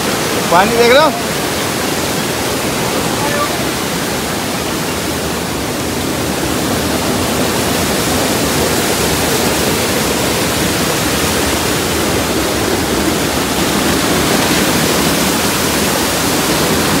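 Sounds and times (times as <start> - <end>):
heavy rain pouring: 0.0 - 17.0
stream rushing: 0.0 - 17.0.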